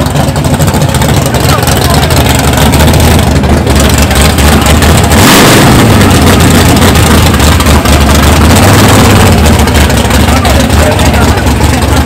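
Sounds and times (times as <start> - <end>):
car engine idling loudly: 0.0 - 12.0.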